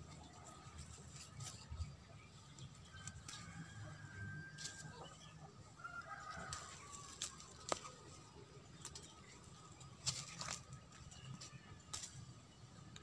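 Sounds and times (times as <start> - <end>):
leaves rustling: 0.0 - 13.0.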